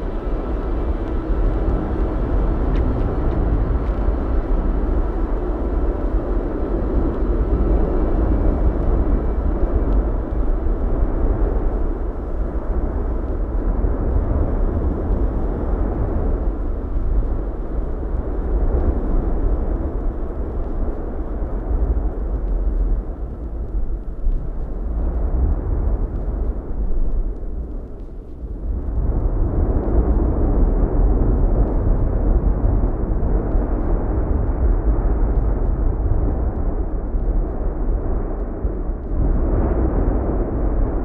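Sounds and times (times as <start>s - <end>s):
volcano rumbling: 0.0s - 41.0s.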